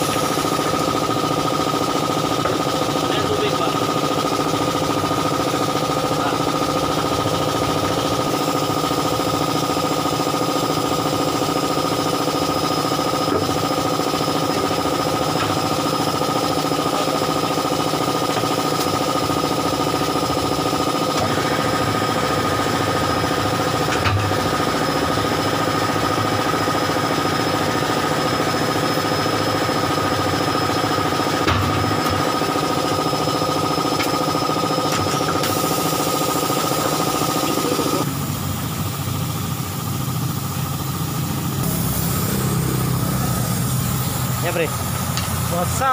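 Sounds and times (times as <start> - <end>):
machine motor hum and whine: 0.0 - 45.9.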